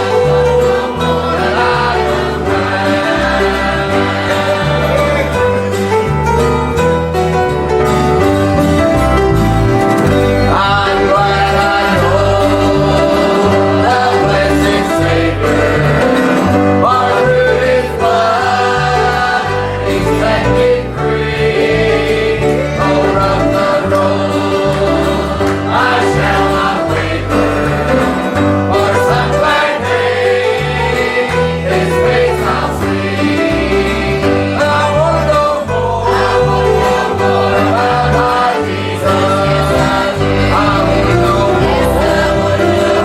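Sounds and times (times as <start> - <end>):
gospel singing with accompaniment: 0.0 - 43.0.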